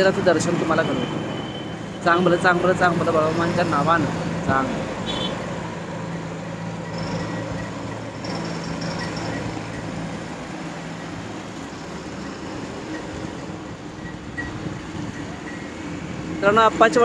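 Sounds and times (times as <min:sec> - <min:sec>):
heavy vehicle engine running: 0:00.0 - 0:17.0
tyre and road noise: 0:00.0 - 0:17.0.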